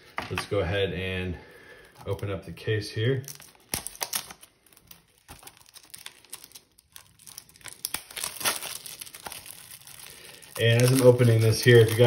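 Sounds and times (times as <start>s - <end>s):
plastic shrink wrap crinkling: 1.8s - 12.0s.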